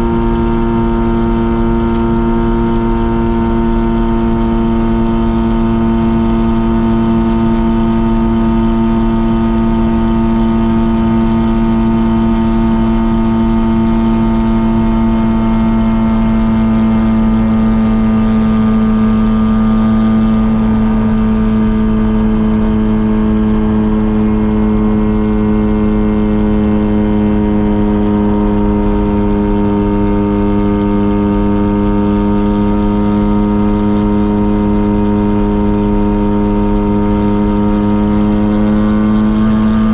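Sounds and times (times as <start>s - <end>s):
car engine exhaust cruising: 0.0s - 39.9s.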